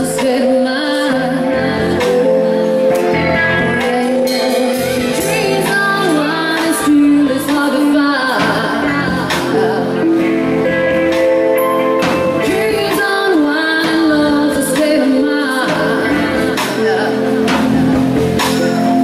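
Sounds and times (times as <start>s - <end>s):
live rock band playing: 0.0s - 19.0s
woman singing: 0.0s - 19.0s.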